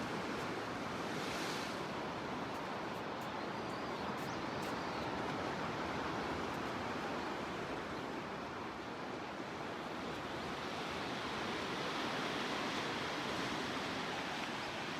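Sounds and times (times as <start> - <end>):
gentle ocean surf: 0.0 - 14.9.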